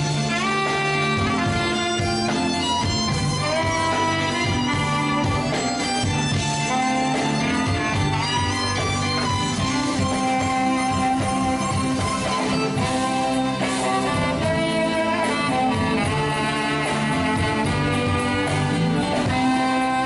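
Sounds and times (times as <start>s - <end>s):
guitar: 0.0s - 20.0s
violin melody: 0.0s - 20.0s.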